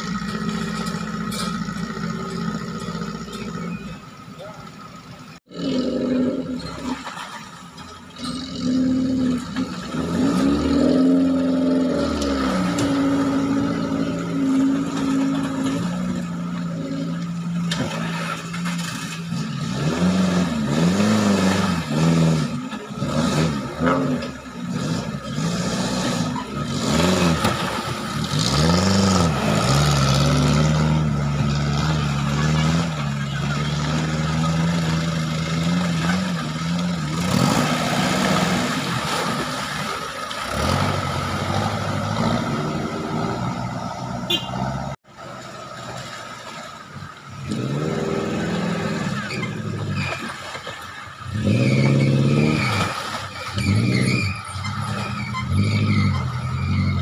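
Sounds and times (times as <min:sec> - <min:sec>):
off-road vehicle engines revving: 0:00.0 - 0:57.0
water churning around wheels: 0:00.0 - 0:57.0.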